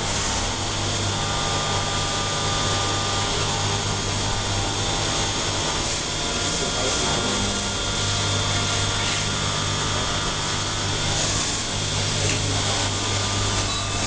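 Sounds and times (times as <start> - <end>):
low machine hum: 0.0 - 14.0
machine cutting noise: 0.0 - 14.0.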